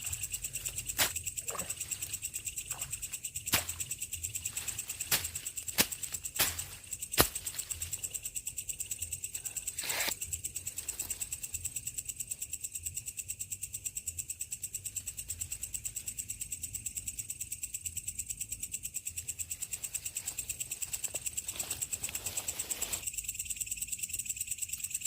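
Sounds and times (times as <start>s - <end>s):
night insects chirping: 0.0s - 25.0s.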